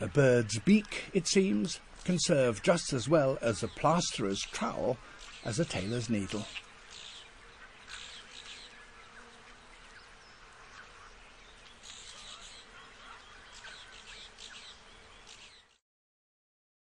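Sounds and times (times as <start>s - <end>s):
insects buzzing: 0.0s - 15.8s.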